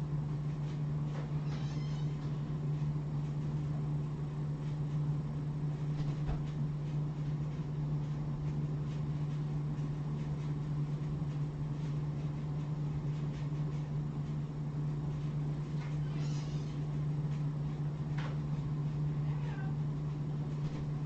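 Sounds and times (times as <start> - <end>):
low hum of room equipment: 0.0 - 21.0.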